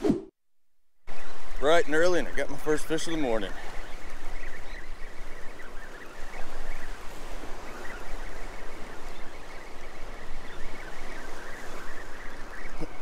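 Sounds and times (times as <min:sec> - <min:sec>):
waves washing: 0:01.1 - 0:13.0
wind buffeting microphone: 0:01.1 - 0:13.0.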